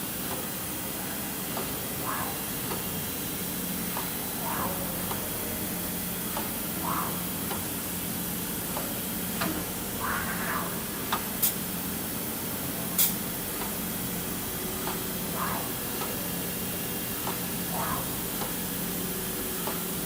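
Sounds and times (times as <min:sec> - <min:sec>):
machine hiss and hum: 0:00.0 - 0:20.0.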